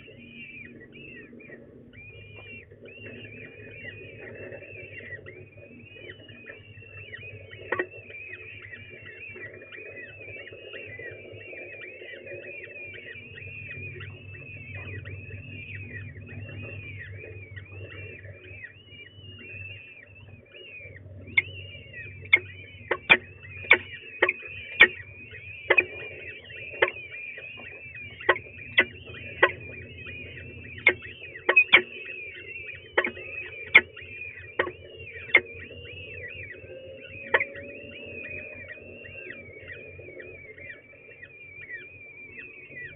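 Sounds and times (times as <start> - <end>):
chicks peeping: 0.0 - 42.9
low hum: 0.0 - 42.9.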